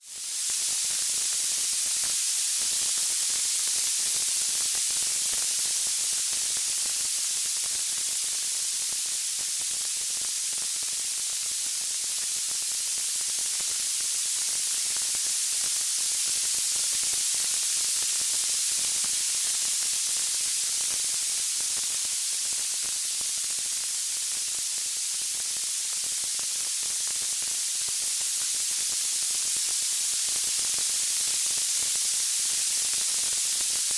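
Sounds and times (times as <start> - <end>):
bright white-noise hiss: 0.0 - 33.9.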